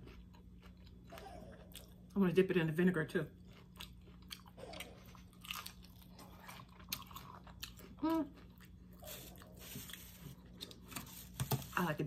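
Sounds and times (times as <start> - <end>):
chewing crunchy food: 0.0 - 2.2, 3.2 - 11.3.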